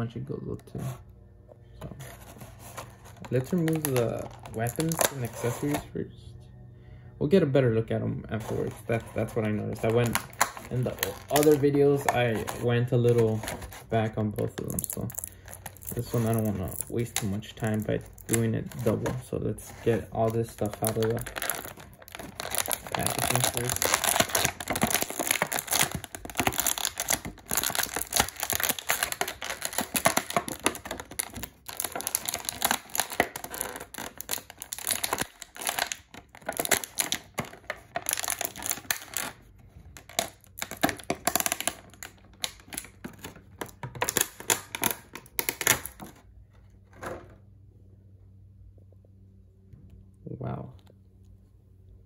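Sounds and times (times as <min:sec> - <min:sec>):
plastic packaging crinkling: 0:01.9 - 0:05.9, 0:08.3 - 0:46.2.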